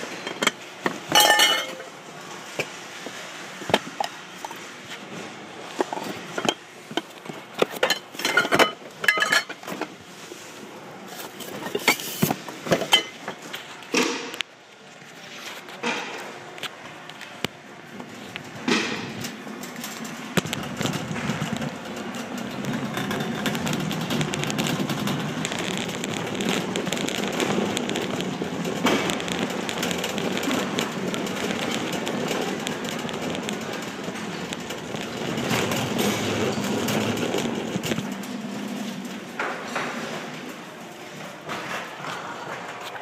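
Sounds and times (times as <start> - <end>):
shopping cart rolling on concrete: 0.0 - 43.0.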